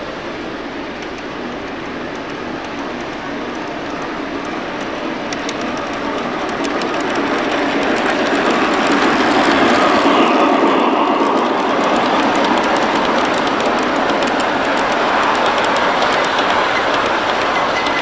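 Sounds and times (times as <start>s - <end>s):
model train wheels rumbling and clicking: 0.0s - 18.0s.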